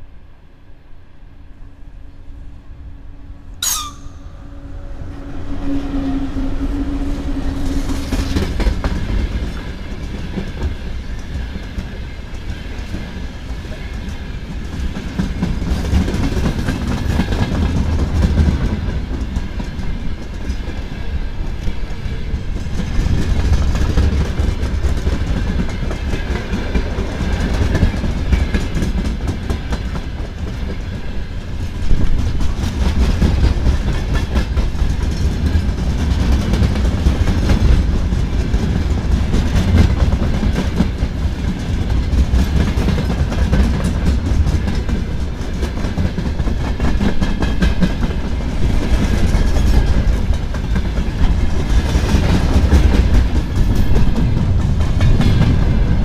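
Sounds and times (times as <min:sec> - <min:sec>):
freight train wheels clattering: 0:07.0 - 0:56.0.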